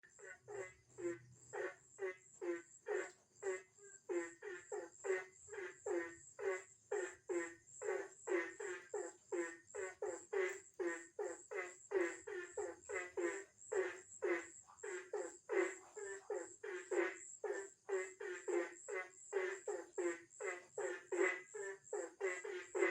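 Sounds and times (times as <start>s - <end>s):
frogs croaking: 0.0s - 22.9s.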